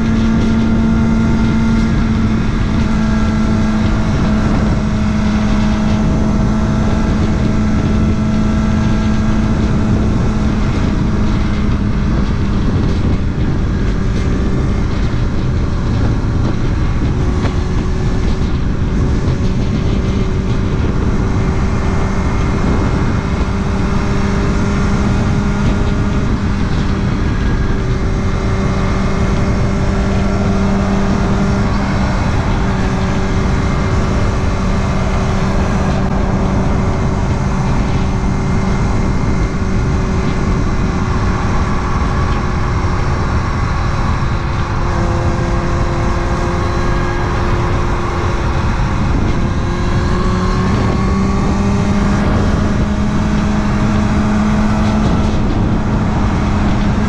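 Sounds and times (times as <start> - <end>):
motorcycle engine cruising: 0.0 - 57.0
steady rush of noise: 0.0 - 57.0.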